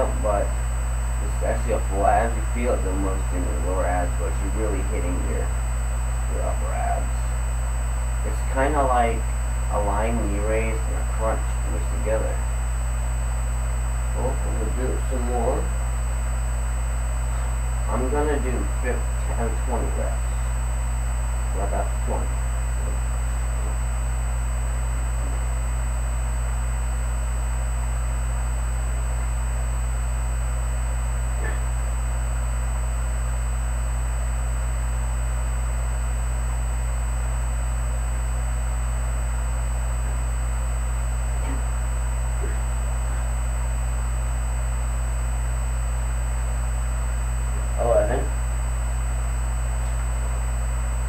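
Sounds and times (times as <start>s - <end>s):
high whine and hiss: 0.0s - 51.0s
steady low hum: 0.0s - 51.0s.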